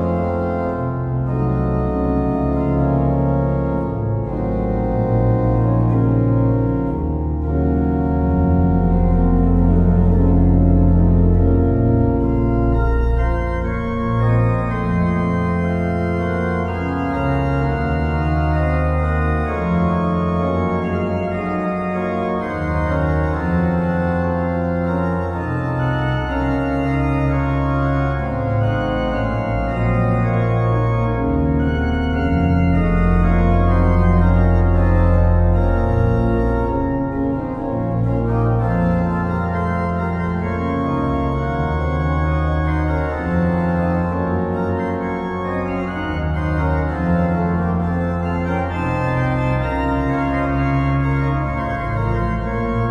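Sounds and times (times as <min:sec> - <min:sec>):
organ music with held chords: 0:00.0 - 0:52.9.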